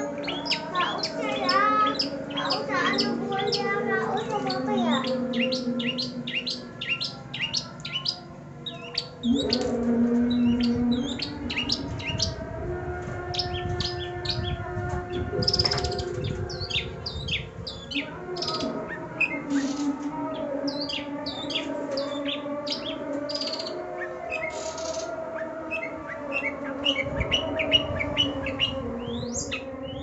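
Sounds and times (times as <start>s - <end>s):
bird singing chirps and whistles: 0.0s - 12.4s, 13.3s - 30.0s.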